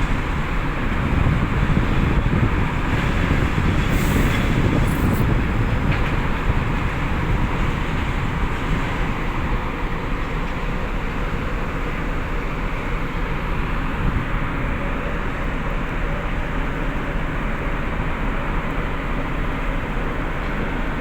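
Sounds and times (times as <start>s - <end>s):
ship machinery rumbling: 0.0s - 21.0s.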